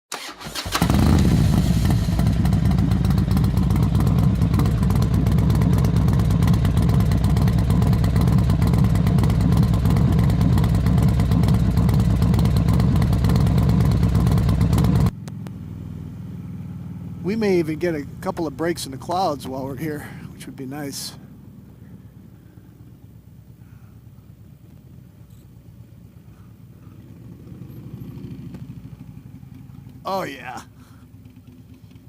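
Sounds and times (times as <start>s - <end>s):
motorcycle engine throbbing: 0.3s - 25.1s, 26.1s - 32.0s.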